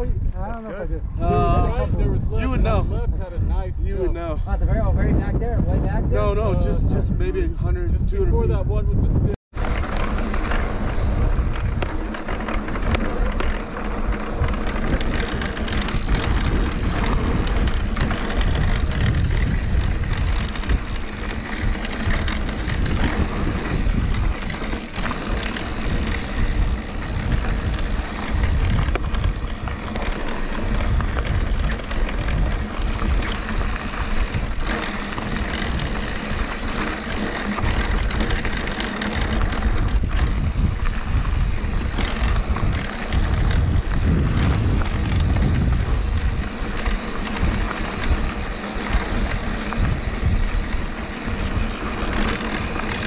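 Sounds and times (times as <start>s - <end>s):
wind rumble on microphone: 0.0s - 53.0s
bike rattling: 9.5s - 53.0s.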